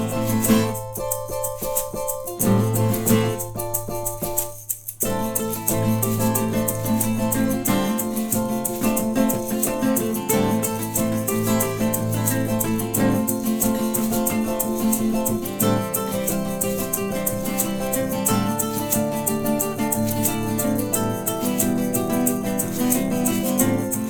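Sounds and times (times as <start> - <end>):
acoustic guitar chords: 0.0 - 24.0
shaker rhythm: 0.0 - 24.0.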